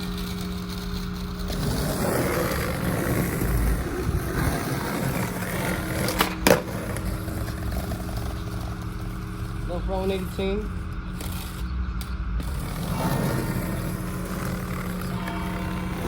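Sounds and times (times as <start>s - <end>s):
skateboard clacks: 0.0s - 9.6s, 12.4s - 16.0s
skateboard wheels rolling on pavement: 0.0s - 16.0s.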